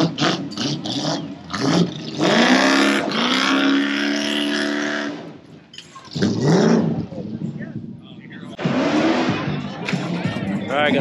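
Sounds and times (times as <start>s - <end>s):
motorcycle engine revving: 0.0s - 10.3s
tire spinning on pavement: 0.0s - 10.3s.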